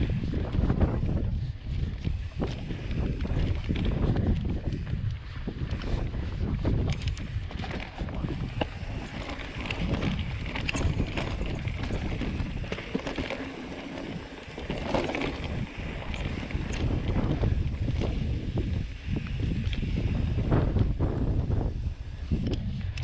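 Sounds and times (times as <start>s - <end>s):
bike rattling over rough ground: 0.0s - 23.0s
wind buffeting microphone: 0.0s - 23.0s.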